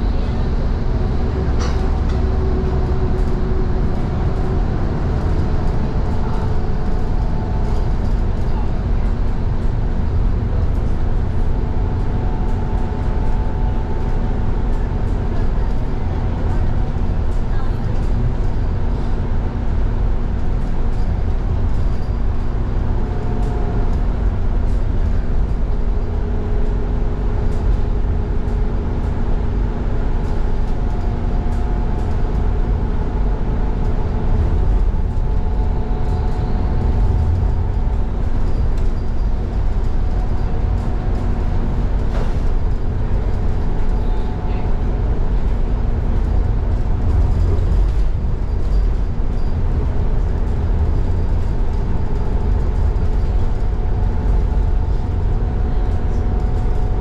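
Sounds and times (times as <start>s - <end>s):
road and tyre rumble: 0.0s - 57.0s.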